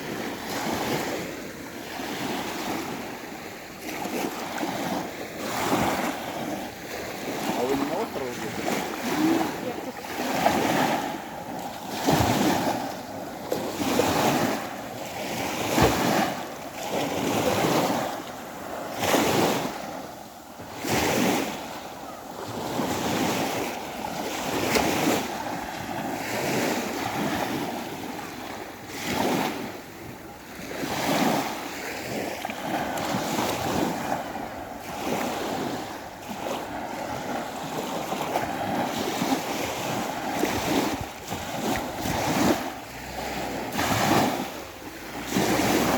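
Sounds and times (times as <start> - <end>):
sea waves washing in: 0.0 - 45.9
wind on microphone: 3.9 - 45.9.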